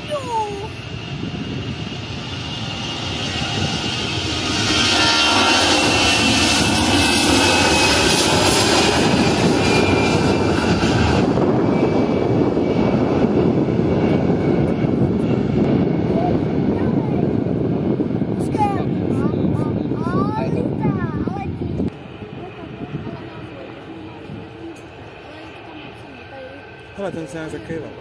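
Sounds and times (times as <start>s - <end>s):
airliner engines passing by: 0.0s - 28.0s.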